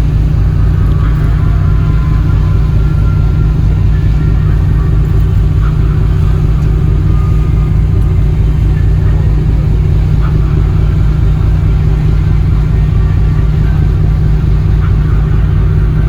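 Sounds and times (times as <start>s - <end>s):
ship engine low rumble: 0.0s - 16.0s.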